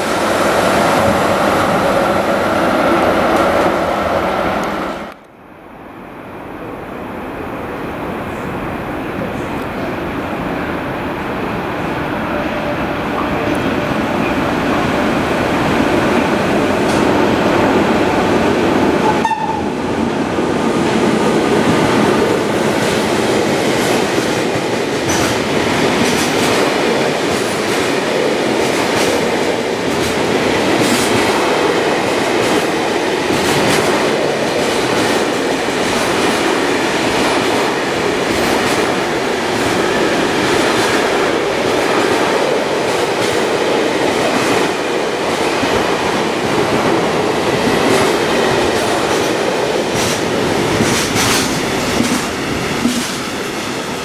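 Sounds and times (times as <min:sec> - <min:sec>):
train wheels rumbling on rail: 0:00.0 - 0:05.2, 0:07.4 - 0:54.0.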